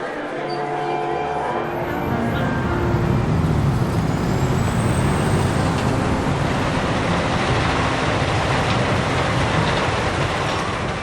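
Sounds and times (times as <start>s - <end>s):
rumbling vehicle engine and road noise: 1.9s - 11.0s.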